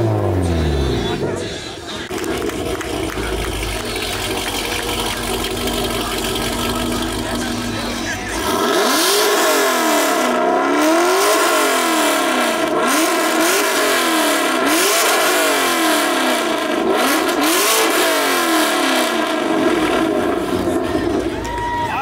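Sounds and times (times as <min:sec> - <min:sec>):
car engine revving loud exhaust: 0:00.0 - 0:21.4.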